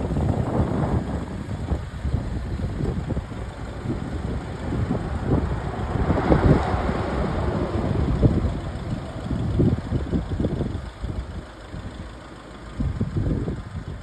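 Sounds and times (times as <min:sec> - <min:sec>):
wind buffeting microphone: 0:00.0 - 0:12.1, 0:12.8 - 0:14.0
truck engine idling: 0:00.0 - 0:14.0.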